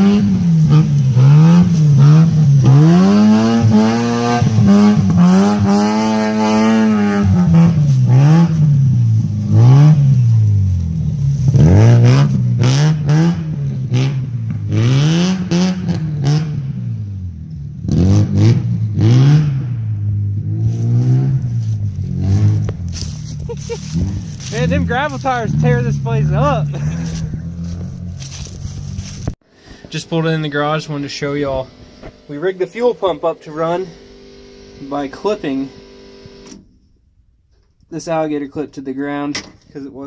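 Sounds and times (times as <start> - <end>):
rally car engine revving: 0.0 - 29.4, 30.4 - 36.6.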